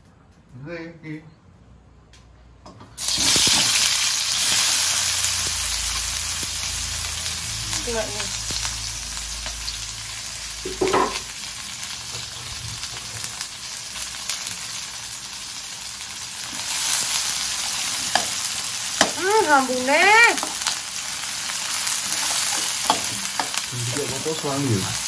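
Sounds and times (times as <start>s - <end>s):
stir-fry sizzling in a pan: 3.0s - 25.0s.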